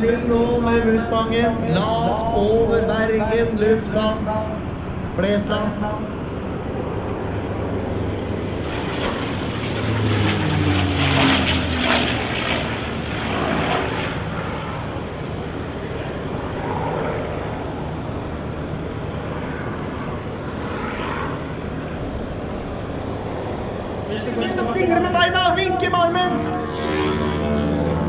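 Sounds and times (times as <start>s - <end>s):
propeller plane flying past: 0.0s - 28.0s.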